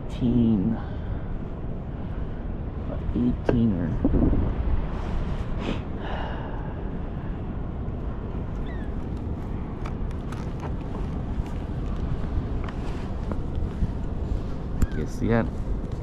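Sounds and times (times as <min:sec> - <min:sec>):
low rumble of wind: 0:00.0 - 0:16.0.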